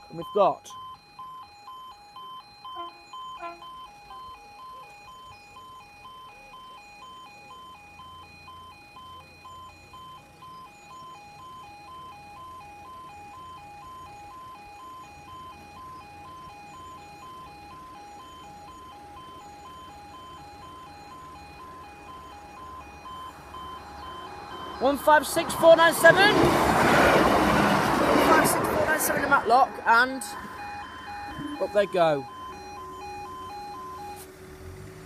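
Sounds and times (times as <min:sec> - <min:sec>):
level crossing alarm warbling: 0:00.0 - 0:34.3.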